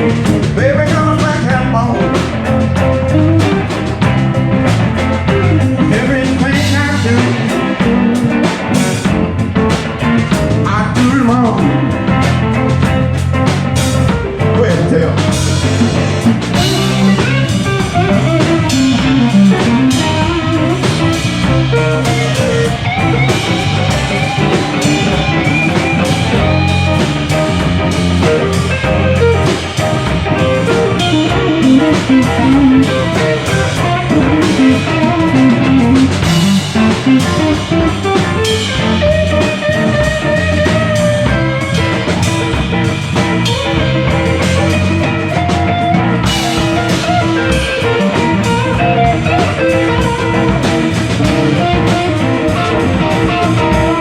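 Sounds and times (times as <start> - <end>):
bass guitar: 0.0 - 54.0
drum kit: 0.0 - 54.0
lead guitar melody: 0.0 - 54.0.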